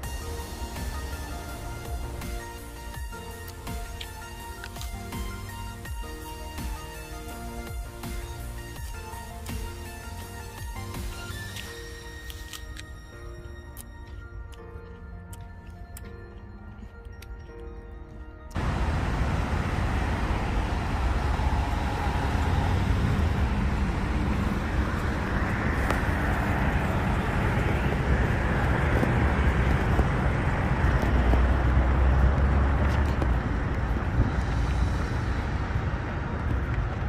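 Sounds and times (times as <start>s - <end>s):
road traffic rumble: 0.0s - 17.4s, 18.0s - 37.0s.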